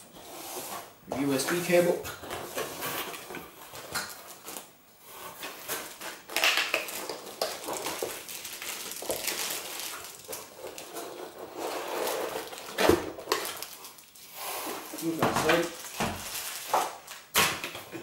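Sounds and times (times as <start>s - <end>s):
cardboard packaging rustling: 0.6s - 18.0s
plastic bag crinkling: 2.6s - 17.4s.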